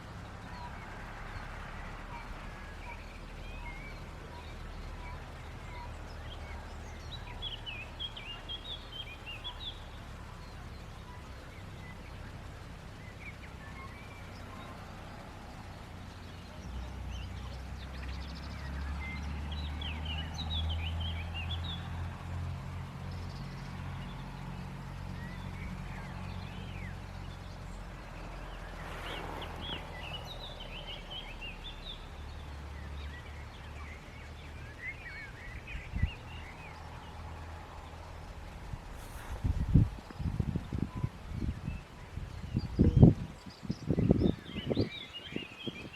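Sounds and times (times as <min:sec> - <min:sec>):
low steady rumble: 0:00.0 - 0:44.8
small birds chirping: 0:00.0 - 0:45.9.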